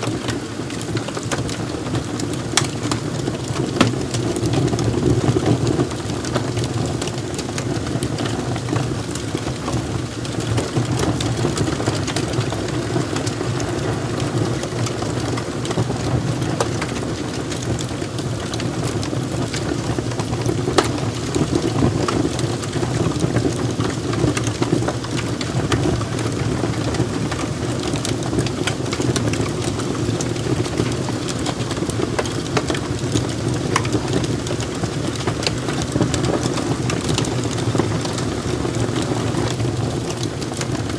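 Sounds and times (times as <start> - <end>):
logs crackling and popping: 0.0 - 40.9
low rush of flames: 0.0 - 40.9.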